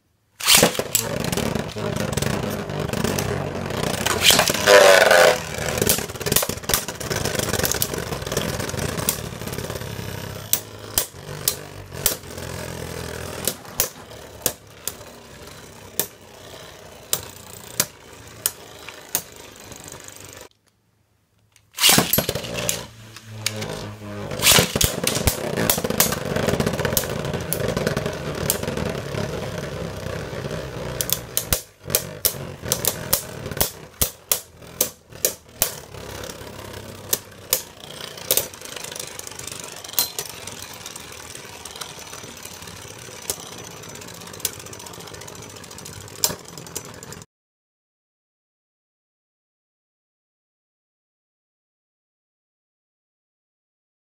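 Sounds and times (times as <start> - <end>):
spinning tops colliding clicks: 0.4 - 20.5, 21.6 - 47.2
spinning tops whirring: 0.4 - 20.5, 21.7 - 47.2.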